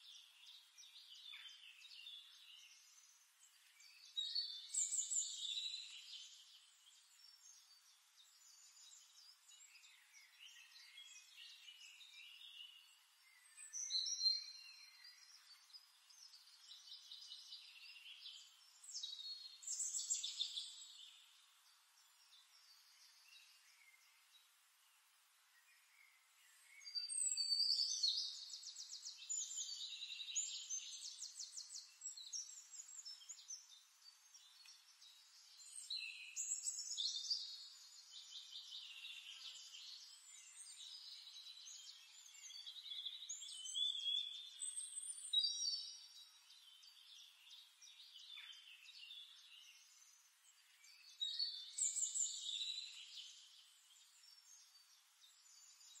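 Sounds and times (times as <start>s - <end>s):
songbird trilling and chirping: 0.0s - 24.5s, 25.5s - 56.0s.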